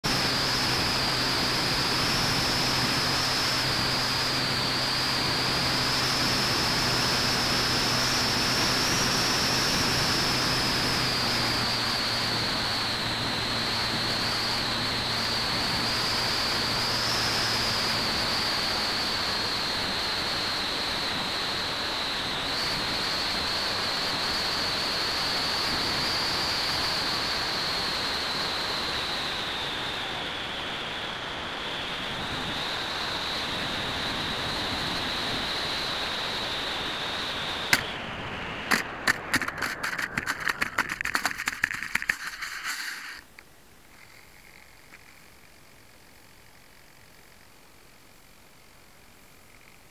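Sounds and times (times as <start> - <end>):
electric motor whine: 0.0 - 43.2.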